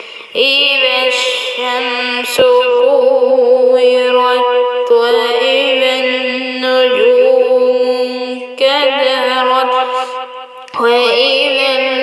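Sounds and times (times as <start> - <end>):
melodic religious recitation: 0.0 - 12.0.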